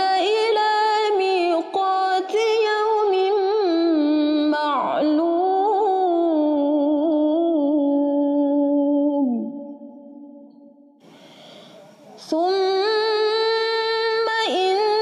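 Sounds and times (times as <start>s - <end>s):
woman chanting recitation: 0.0s - 9.7s, 12.0s - 15.0s.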